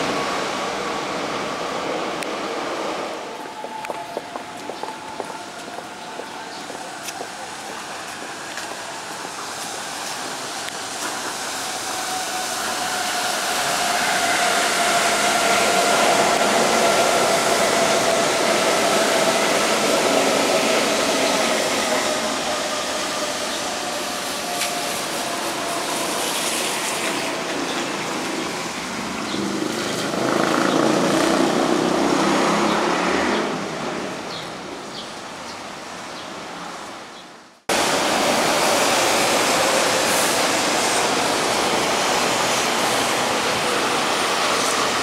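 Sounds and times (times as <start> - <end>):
monorail train passing: 0.0 - 45.0.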